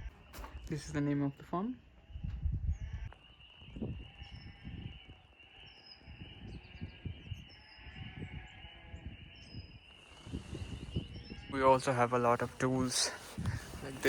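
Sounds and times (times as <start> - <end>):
high bird chirps: 0.0 - 14.0.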